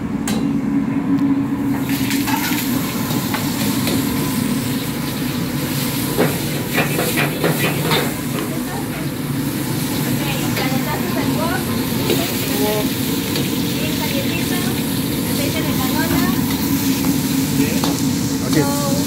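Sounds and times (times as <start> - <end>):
wok burner roaring: 0.0 - 19.0
meat sizzling in a wok: 1.8 - 19.0.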